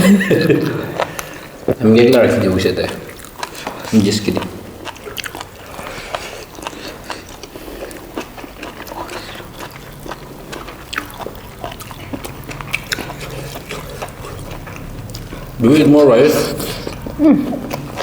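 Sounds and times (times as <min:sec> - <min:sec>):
close chewing and biting: 0:00.0 - 0:18.0.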